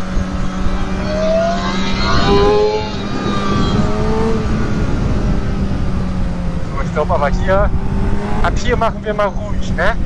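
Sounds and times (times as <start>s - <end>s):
motorcycle engine accelerating: 0.0s - 10.0s
wind noise on microphone: 0.0s - 10.0s.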